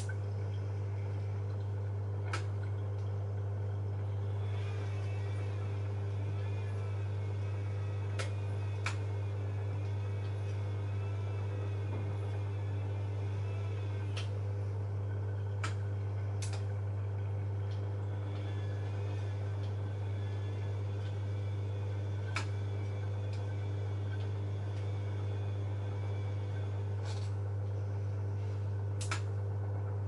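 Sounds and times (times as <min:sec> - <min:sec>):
washing machine humming: 0:00.0 - 0:30.0.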